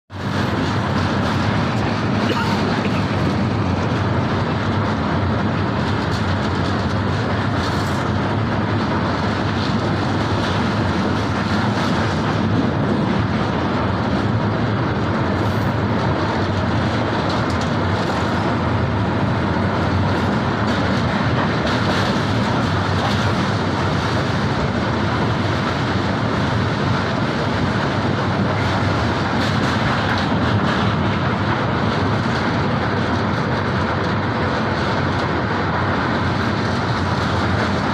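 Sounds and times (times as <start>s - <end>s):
train rumbling on rails: 0.0s - 37.9s.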